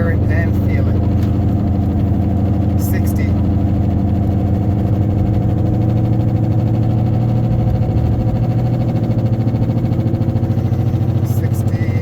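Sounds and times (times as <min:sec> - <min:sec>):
car cabin low drone: 0:00.0 - 0:12.0.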